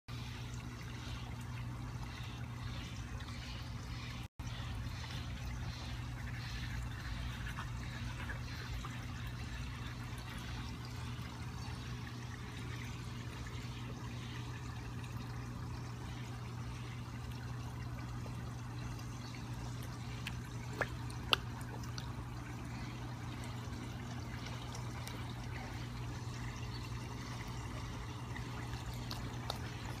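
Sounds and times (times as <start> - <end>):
low constant hum: 0.1 - 30.0
water trickling in a pond: 0.1 - 30.0.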